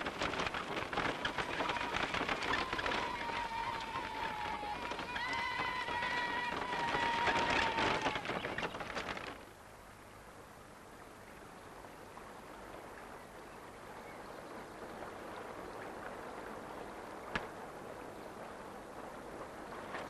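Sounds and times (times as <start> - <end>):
stream flowing over stones: 0.0 - 20.0.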